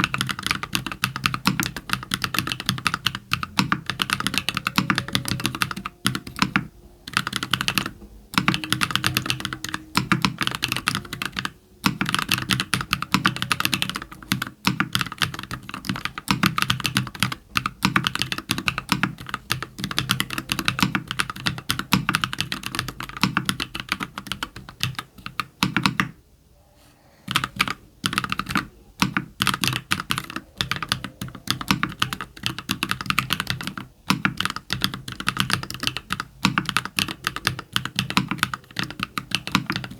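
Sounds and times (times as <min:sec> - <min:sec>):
mechanical keyboard typing clacks: 0:00.0 - 0:26.2, 0:27.3 - 0:39.9.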